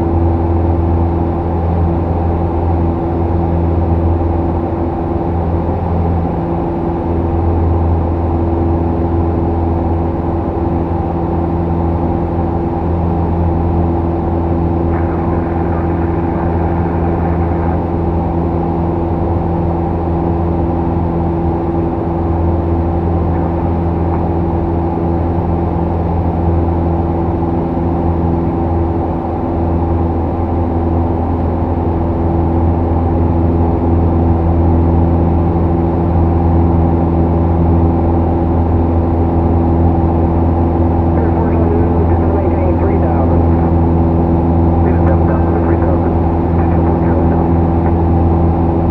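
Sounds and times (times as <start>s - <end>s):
airplane engine droning: 0.0s - 48.9s.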